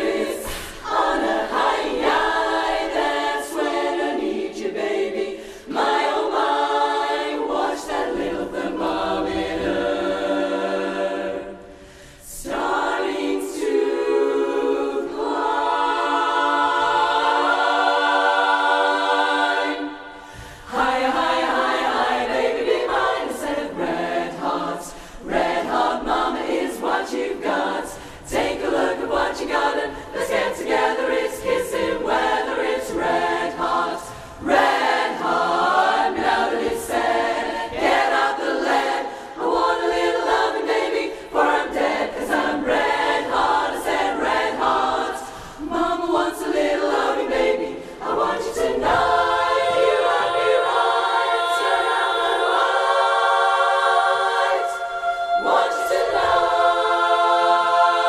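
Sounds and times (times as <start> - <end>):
women's chorus singing a cappella: 0.0 - 58.0.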